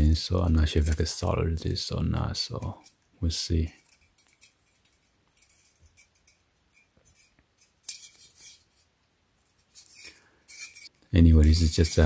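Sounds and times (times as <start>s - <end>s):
metal strip clinking and scraping: 0.2s - 1.4s, 2.4s - 12.0s.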